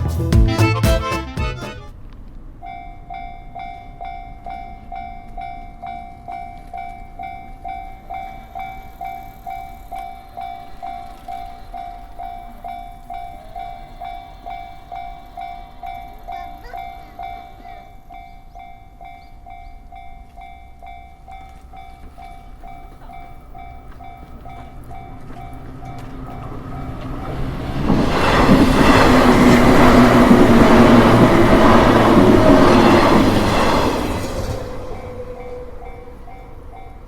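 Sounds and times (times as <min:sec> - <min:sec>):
train passing: 0:00.0 - 0:37.0
level-crossing alarm ringing: 0:02.6 - 0:27.0, 0:28.8 - 0:37.0.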